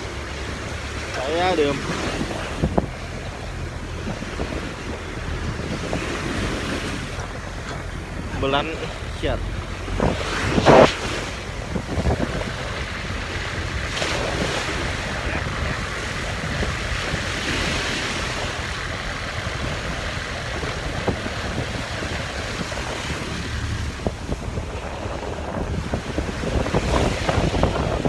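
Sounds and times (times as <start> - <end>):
sea surf washing ashore: 0.0 - 28.0
wind rumbling on microphone: 0.0 - 28.0.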